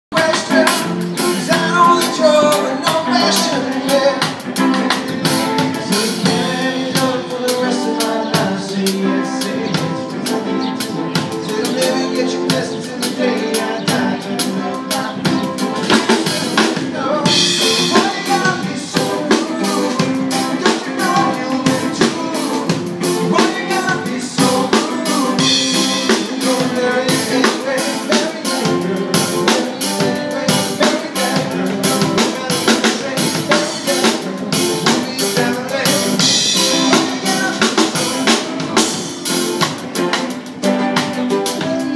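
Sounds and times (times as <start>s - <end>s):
bass guitar: 0.1s - 41.9s
drum kit beat: 0.1s - 41.9s
electric guitar: 0.1s - 41.9s.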